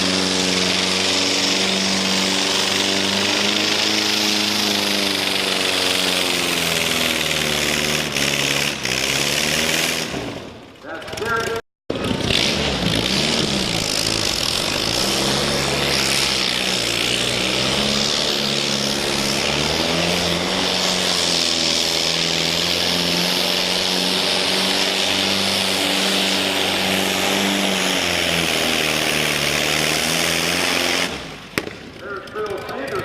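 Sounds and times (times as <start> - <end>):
tractor engine running under load: 0.0 - 33.0.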